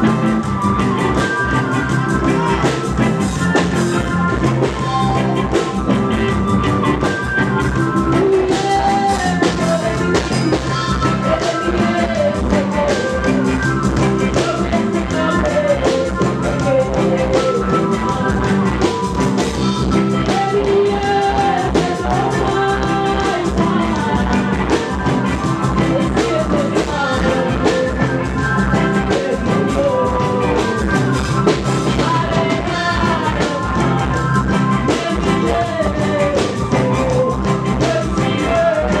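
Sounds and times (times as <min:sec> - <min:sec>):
live reggae band playing: 0:00.0 - 0:39.0
person singing: 0:00.0 - 0:39.0.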